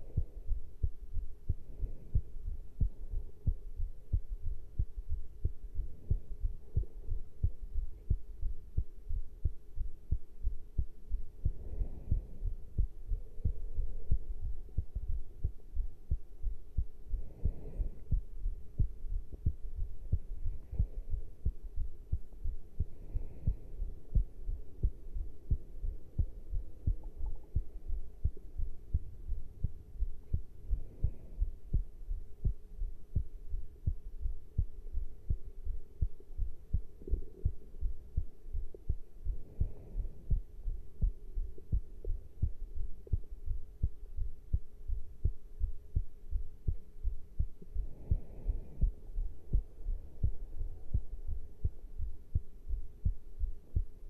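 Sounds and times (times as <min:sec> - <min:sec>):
human heartbeat thuds: 0:00.0 - 0:54.0.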